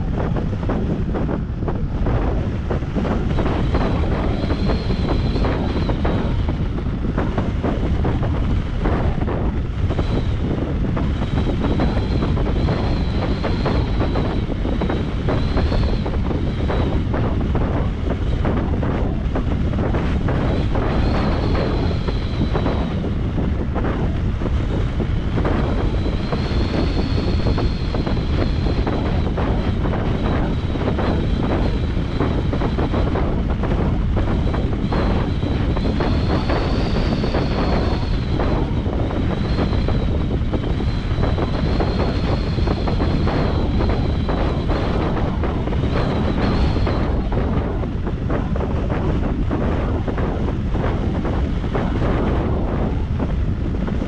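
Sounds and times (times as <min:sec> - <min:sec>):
airflow buffeting microphone: 0:00.0 - 0:54.0.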